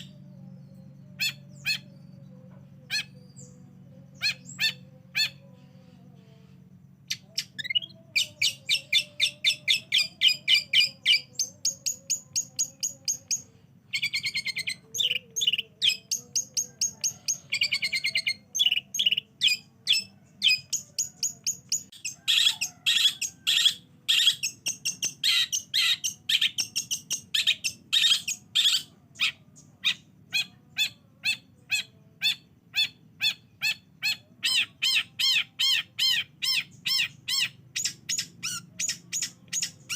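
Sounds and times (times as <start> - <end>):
shrike singing chattering song: 0.0 - 39.9.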